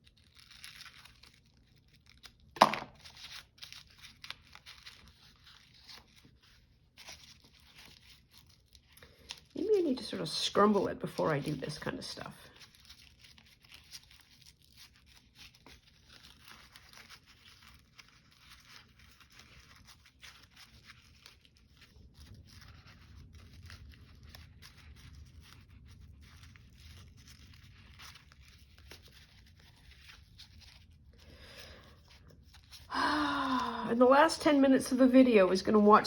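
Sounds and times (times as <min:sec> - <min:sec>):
paper rustling and crinkling: 0:00.0 - 0:35.9.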